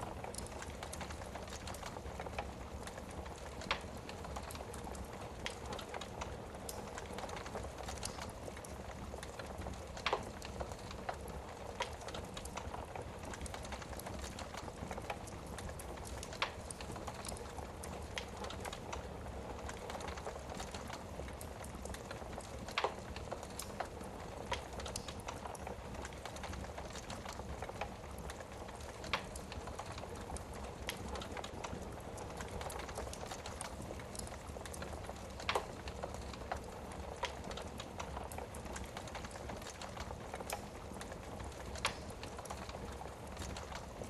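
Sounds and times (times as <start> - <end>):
logs crackling and popping: 0.0 - 44.0.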